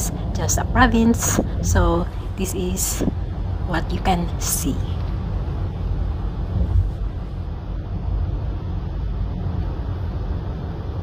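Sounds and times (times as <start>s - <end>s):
car driving rumble inside cabin: 0.0s - 11.0s.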